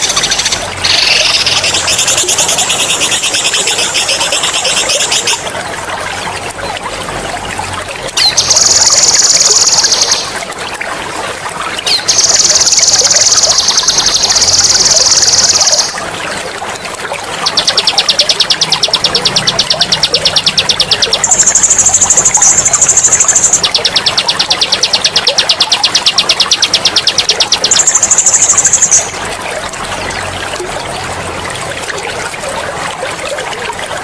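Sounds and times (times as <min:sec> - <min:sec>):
running water trickling: 0:00.0 - 0:34.0.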